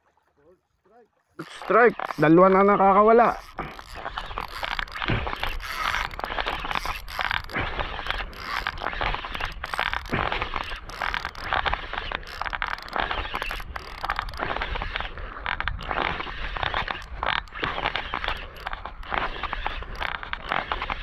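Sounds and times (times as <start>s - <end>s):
fishing reel whirring: 0.1s - 21.0s
wind rumbling on microphone: 1.4s - 21.0s.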